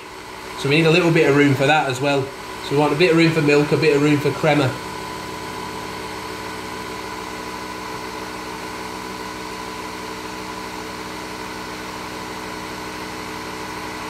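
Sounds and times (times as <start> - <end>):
coffee machine humming: 0.0 - 14.0.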